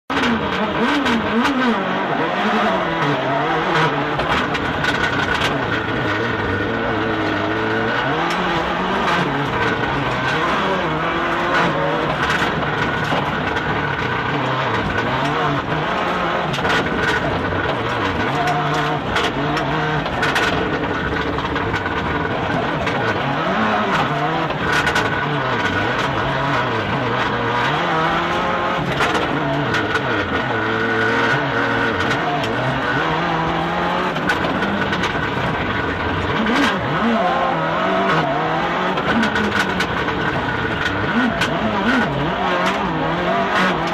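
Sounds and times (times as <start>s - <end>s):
rally car engine revving: 0.0s - 43.9s.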